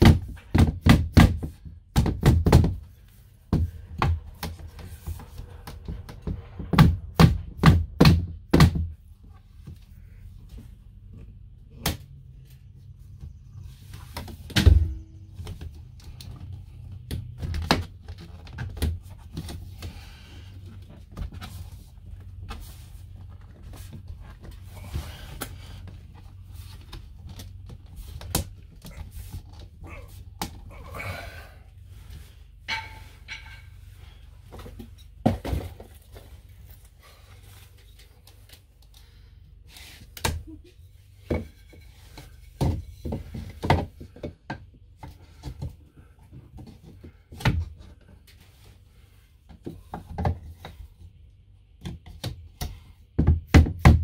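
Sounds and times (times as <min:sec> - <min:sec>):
steady low hum: 0:02.8 - 0:51.8.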